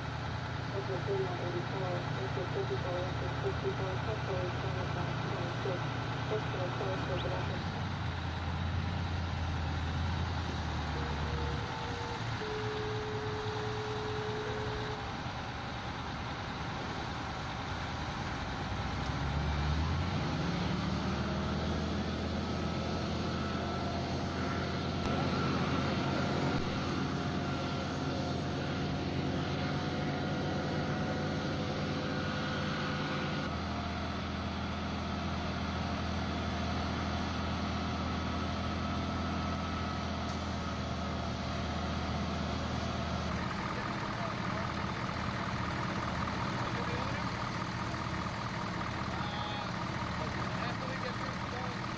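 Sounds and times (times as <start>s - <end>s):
fire engine revving: 0.0s - 51.9s.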